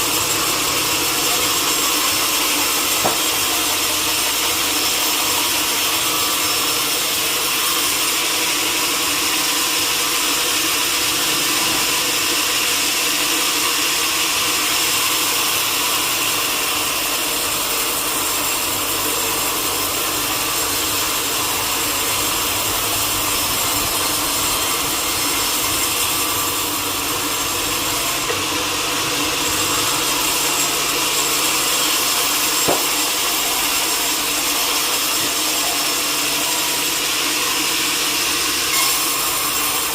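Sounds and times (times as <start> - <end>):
sawmill saw cutting a log: 0.0 - 39.9.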